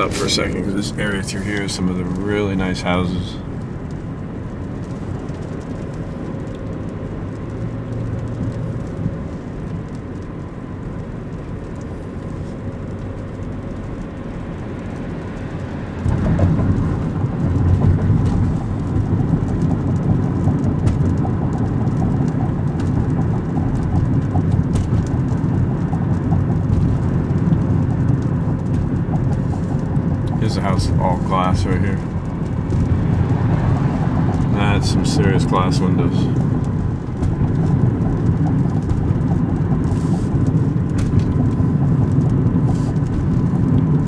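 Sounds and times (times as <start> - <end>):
road and engine noise in car cabin: 0.0 - 44.0.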